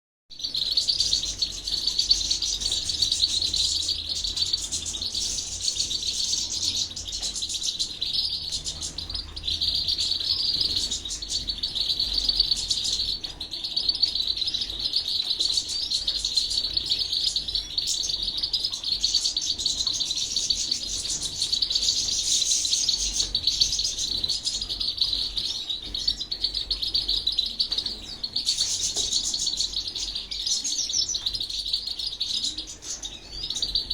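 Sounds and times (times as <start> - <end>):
finch singing high twittering trills: 0.4 - 33.9.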